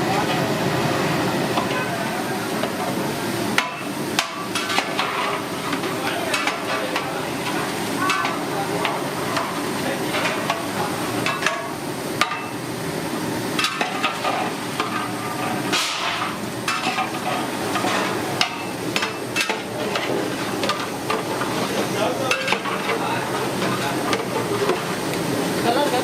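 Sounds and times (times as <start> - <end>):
food sizzling in hot oil: 0.0 - 26.0
utensils clanking on pot: 1.5 - 26.0.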